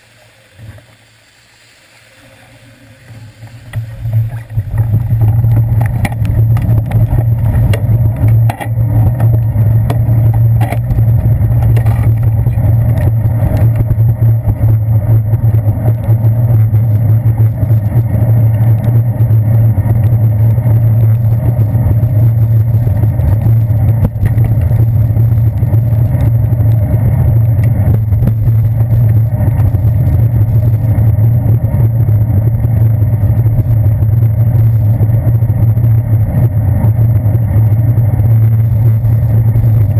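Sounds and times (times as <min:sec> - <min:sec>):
bicycle rumbling on wet pavement: 0:00.0 - 0:39.9
wind: 0:00.0 - 0:39.9.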